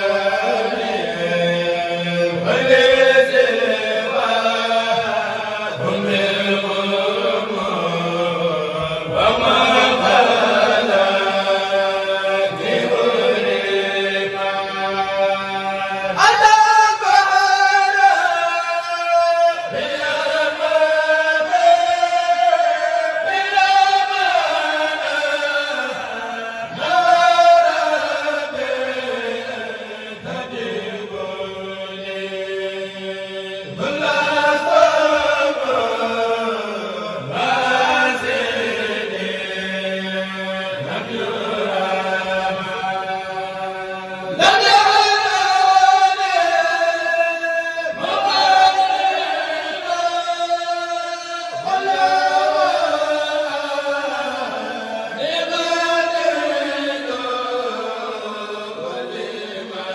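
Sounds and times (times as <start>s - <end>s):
men chanting into microphones: 0.0s - 59.9s.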